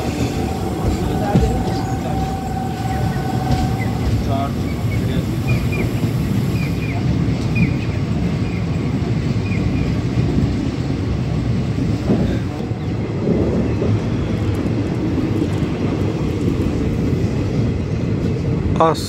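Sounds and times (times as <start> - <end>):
train wheels rumbling over rails: 0.0 - 19.0.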